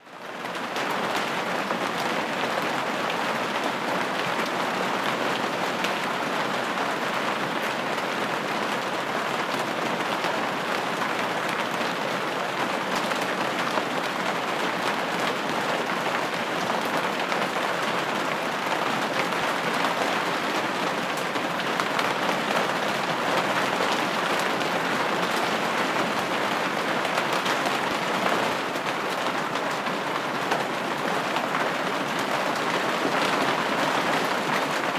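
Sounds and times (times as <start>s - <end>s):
rain on a window pane: 0.0s - 34.9s.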